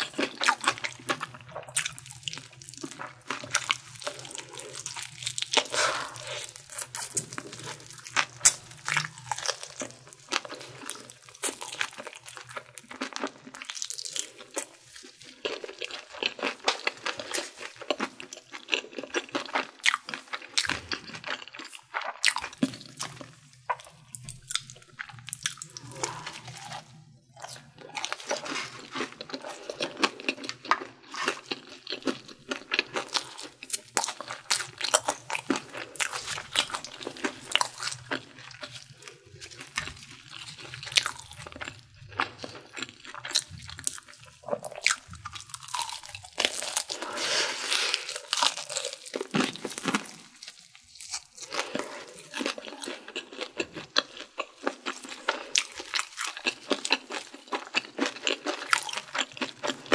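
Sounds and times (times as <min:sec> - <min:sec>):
crispy fried chicken crunching: 0:00.0 - 0:59.9.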